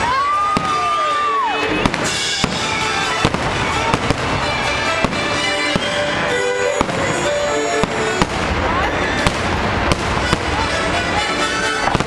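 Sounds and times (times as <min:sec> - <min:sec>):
fireworks bangs: 0:00.0 - 0:12.0
music with held notes: 0:00.1 - 0:12.0.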